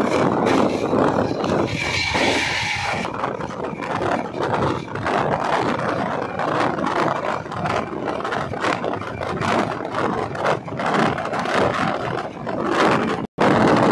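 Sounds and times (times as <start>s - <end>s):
train wheels clattering on rails: 0.0s - 13.9s
wind noise: 0.0s - 13.9s.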